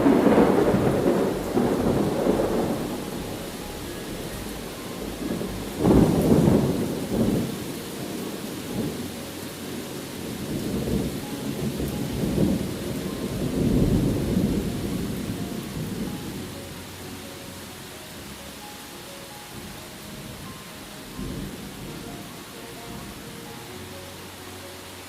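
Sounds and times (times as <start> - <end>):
thunder rumbling: 0.0 - 18.4, 19.5 - 23.8
steady rain: 0.0 - 25.0.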